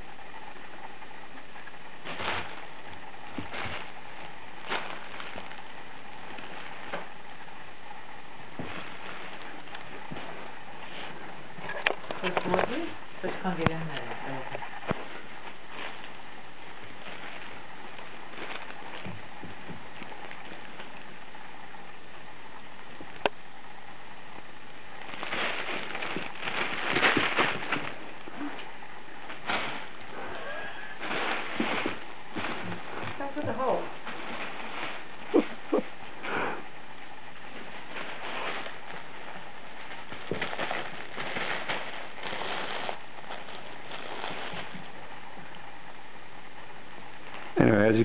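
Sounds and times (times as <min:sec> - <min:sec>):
crinkle tunnel crackling: 0:00.0 - 0:48.0.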